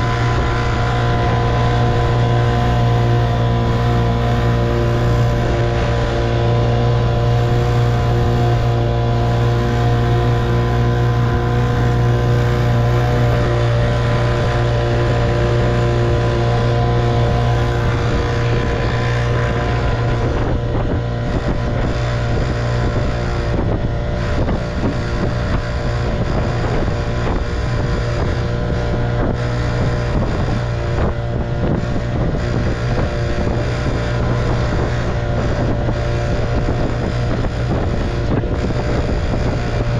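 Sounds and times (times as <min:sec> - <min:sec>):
outboard motor running: 0:00.0 - 0:39.9
wind on microphone: 0:00.0 - 0:39.9.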